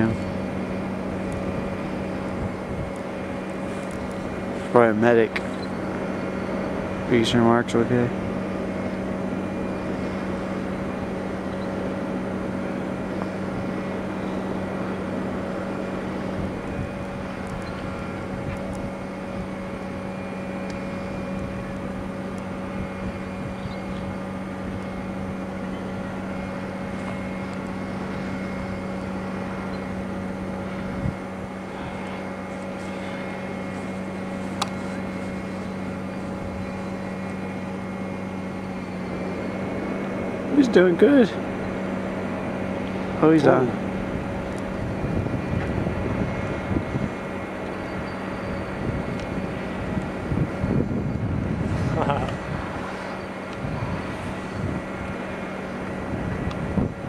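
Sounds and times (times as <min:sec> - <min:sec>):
machine drone low hum: 0:00.0 - 0:57.0
steady higher tones: 0:00.0 - 0:57.0.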